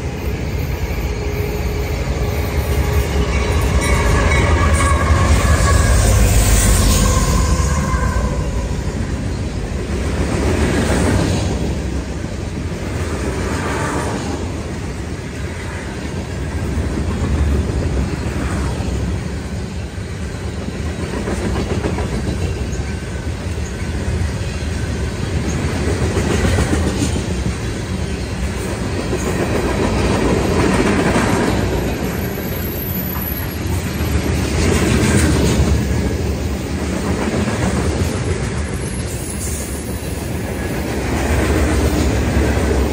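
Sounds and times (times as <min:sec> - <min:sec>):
freight train wheels clacking: 0:00.0 - 0:42.9.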